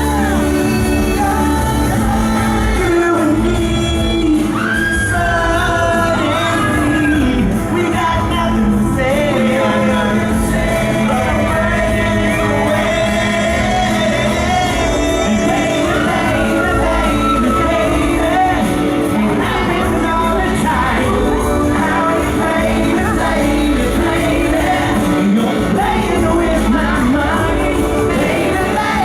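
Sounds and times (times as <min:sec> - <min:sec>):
amplified backing band: 0:00.0 - 0:29.0
group vocals singing: 0:00.0 - 0:29.0.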